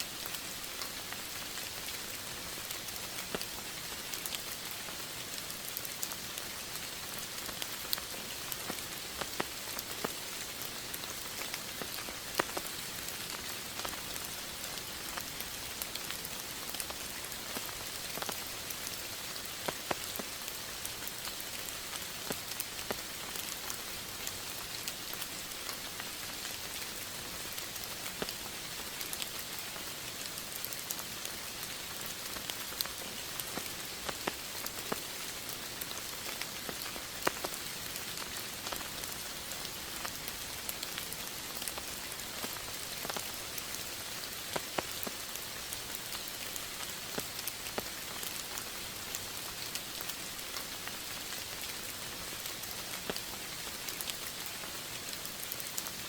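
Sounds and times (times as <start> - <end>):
rain falling: 0.0 - 56.0
raindrops ticking: 0.1 - 56.0.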